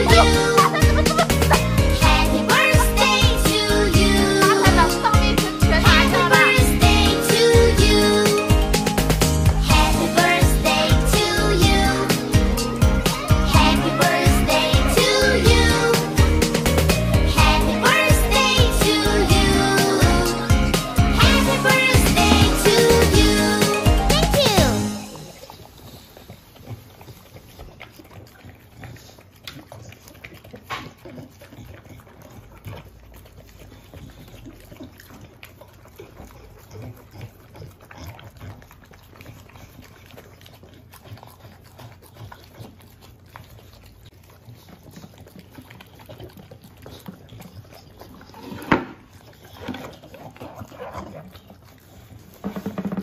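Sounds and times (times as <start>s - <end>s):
dogs lapping and chewing: 0.0s - 53.0s.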